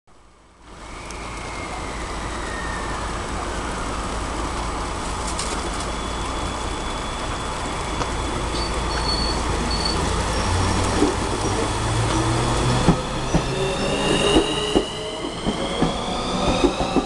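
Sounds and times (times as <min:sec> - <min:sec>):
electric train rumble and hum: 0:00.1 - 0:17.0
faint whine sliding down: 0:00.7 - 0:17.0.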